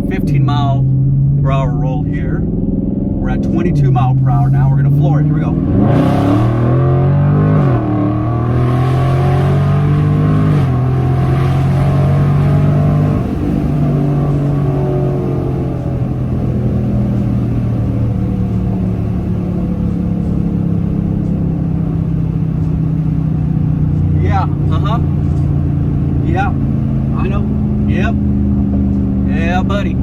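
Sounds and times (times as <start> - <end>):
car engine at full throttle: 0.0 - 30.0.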